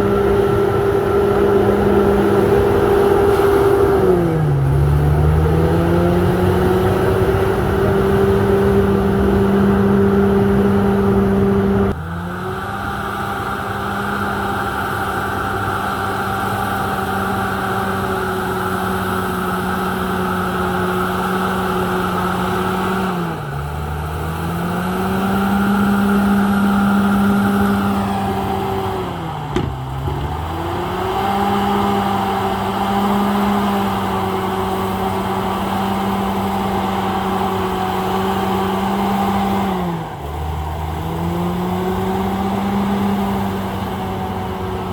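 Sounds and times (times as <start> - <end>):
bulldozer diesel engine revving: 0.0 - 44.9.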